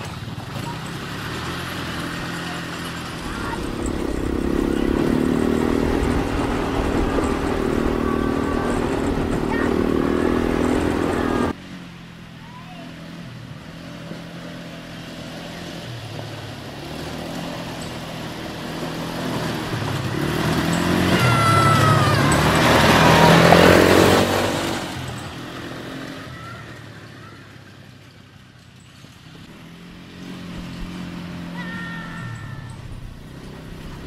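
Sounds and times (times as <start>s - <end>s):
quad bike engine passing: 0.0s - 34.0s.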